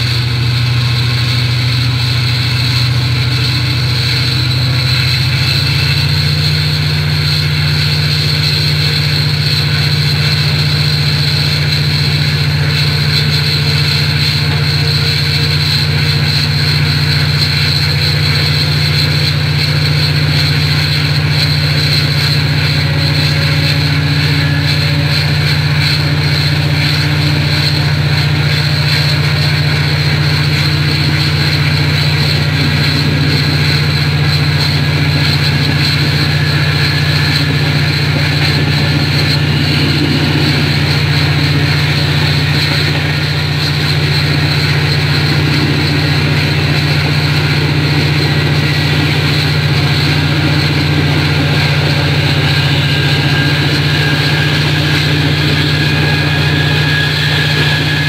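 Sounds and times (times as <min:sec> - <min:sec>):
diesel train engine droning: 0:00.0 - 0:58.0.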